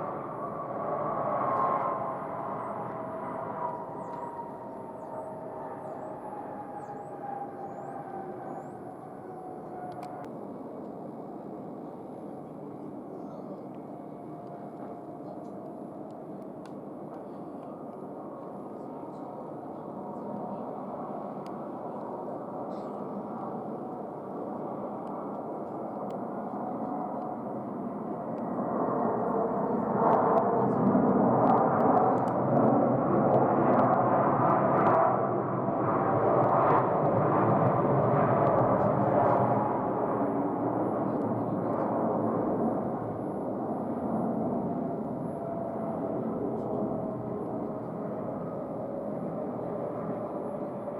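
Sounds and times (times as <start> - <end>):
distant jet engines rumbling: 0.0 - 50.9.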